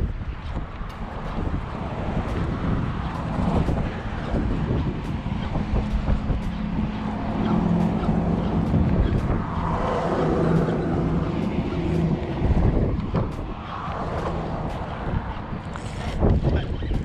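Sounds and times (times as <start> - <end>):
vehicle engine drone: 0.0 - 17.0
wind rumbling on microphone: 0.0 - 17.0.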